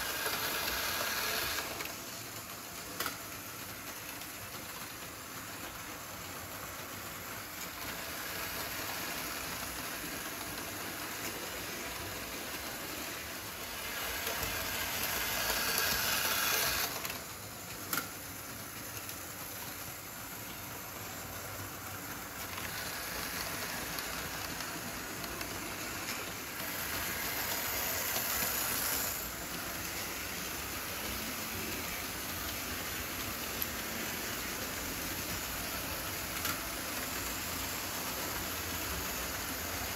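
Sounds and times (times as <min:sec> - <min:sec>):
model train wheels rattling on track: 0:00.0 - 0:39.9.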